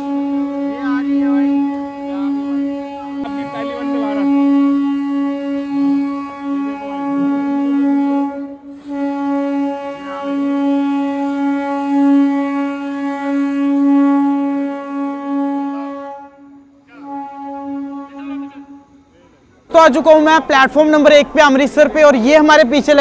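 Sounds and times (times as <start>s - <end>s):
train horn blast: 0.0s - 20.2s.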